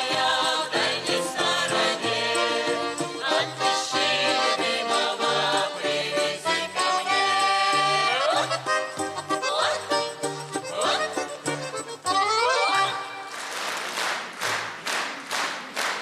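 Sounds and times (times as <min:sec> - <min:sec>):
instrumental folk ensemble: 0:00.0 - 0:13.6.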